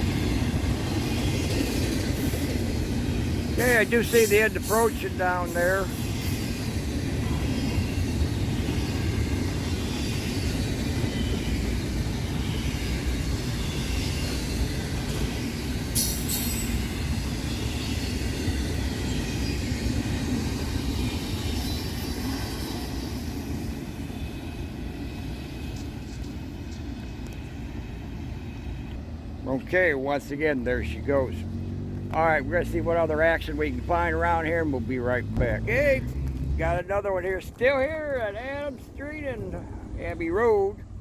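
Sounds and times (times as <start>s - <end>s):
freight train rumbling and clattering: 0.0s - 41.0s.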